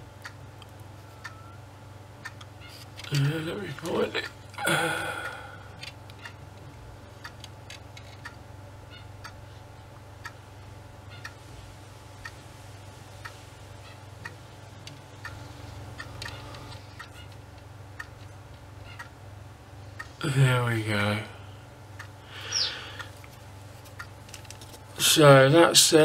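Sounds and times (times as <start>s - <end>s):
faint regular ticking: 0.0s - 26.0s
low steady hum: 0.0s - 26.0s.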